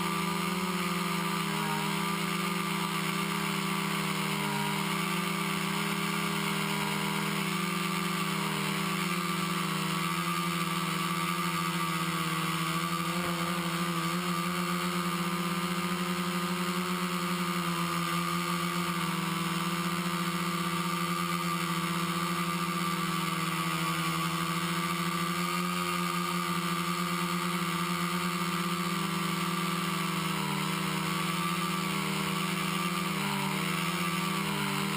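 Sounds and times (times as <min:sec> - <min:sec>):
quadcopter motors and propellers: 0:00.0 - 0:34.9.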